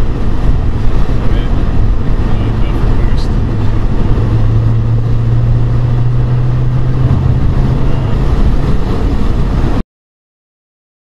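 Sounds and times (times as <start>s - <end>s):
car engine droning under boost: 0.0s - 9.8s.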